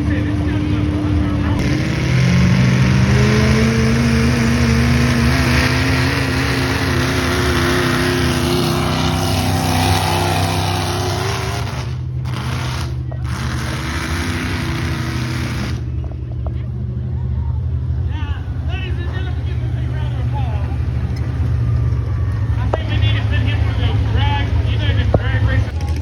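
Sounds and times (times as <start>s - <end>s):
engine running hard under load: 0.0s - 26.0s.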